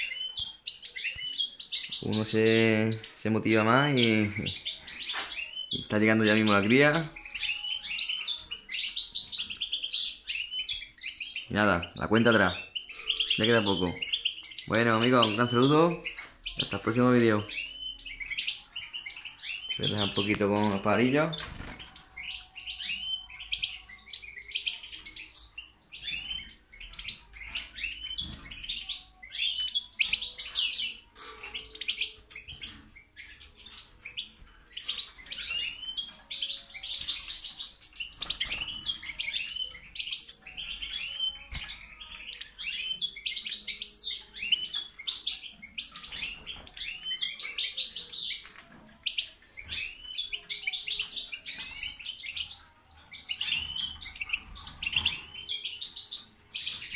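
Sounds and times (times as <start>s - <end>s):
finches singing and twittering: 0.0s - 56.9s.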